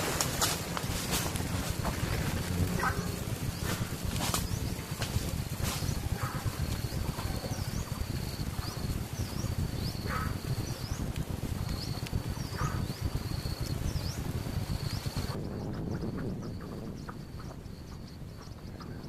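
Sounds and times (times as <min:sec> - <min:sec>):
insect trill: 0:00.0 - 0:15.8
insect chirps: 0:00.0 - 0:19.0
steady low rumble: 0:00.0 - 0:19.0.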